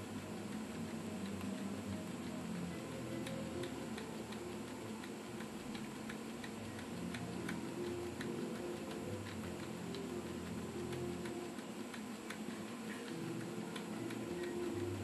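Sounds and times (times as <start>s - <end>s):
light ticking: 0.0s - 15.0s.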